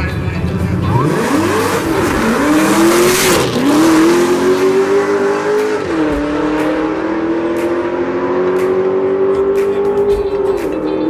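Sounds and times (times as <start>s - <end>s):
car engine accelerating hard: 0.4s - 11.0s.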